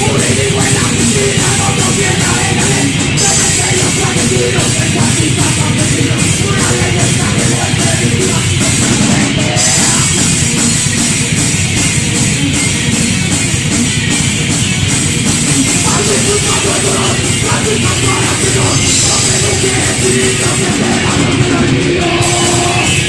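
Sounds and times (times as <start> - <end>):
distorted electric guitars: 0.0 - 23.0
fast driving drums: 0.0 - 23.0
thrash metal band: 0.0 - 23.0.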